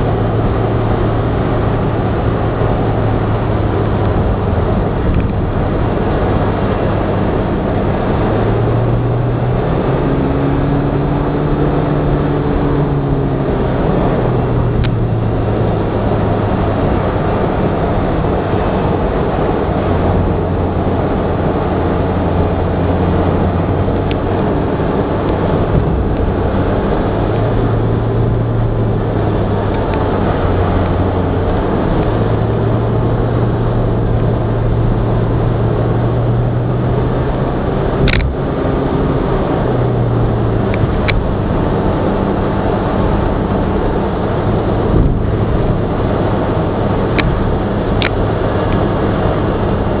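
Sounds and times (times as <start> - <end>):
car engine drone: 0.0 - 50.0.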